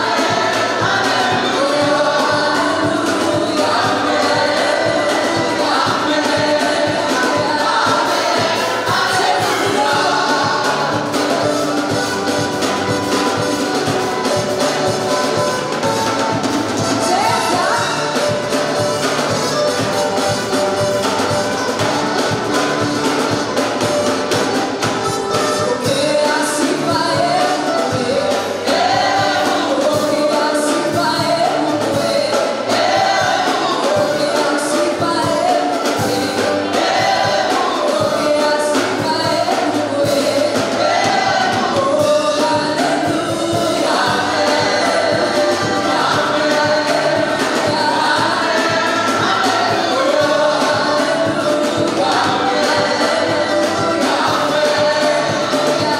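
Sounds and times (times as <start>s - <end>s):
gospel group singing: 0.0s - 55.9s
instrumental backing with beat: 0.0s - 55.9s.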